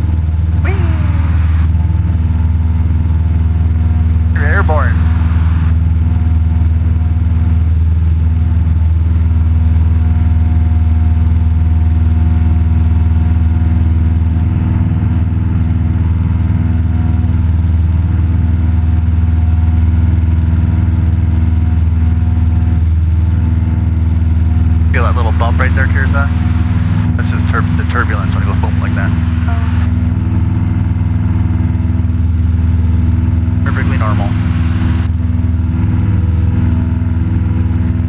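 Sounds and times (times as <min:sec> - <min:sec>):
light aircraft engine droning: 0:00.0 - 0:38.0.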